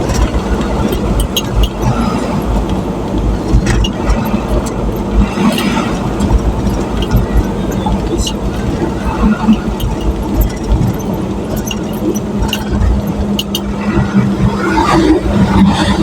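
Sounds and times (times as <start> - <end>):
small clicks and rattles: 0.0 - 14.3
engine and road rumble: 0.0 - 16.0.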